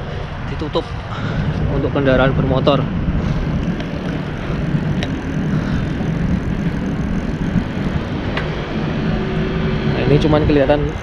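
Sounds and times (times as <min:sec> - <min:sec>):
bicycle rolling noise: 0:00.0 - 0:11.0
wind rumble on microphone: 0:00.0 - 0:11.0.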